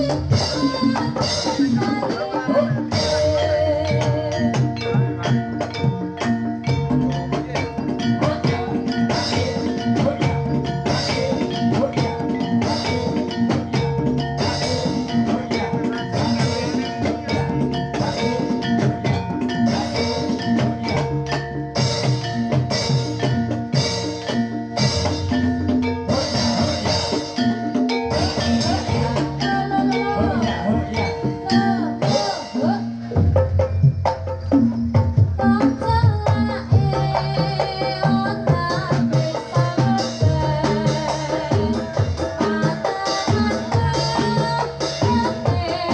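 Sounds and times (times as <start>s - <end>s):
hand drumming: 0.0s - 45.9s.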